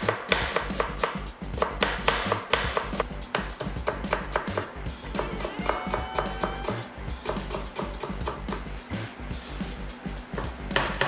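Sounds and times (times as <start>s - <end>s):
knife chopping on cutting board: 0.0s - 8.7s, 10.4s - 11.0s
background music: 0.0s - 11.0s.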